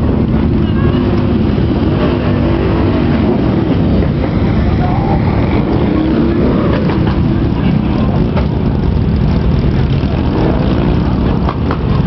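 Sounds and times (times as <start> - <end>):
motorcycle engines running: 0.0 - 12.0
people's voices: 0.0 - 12.0.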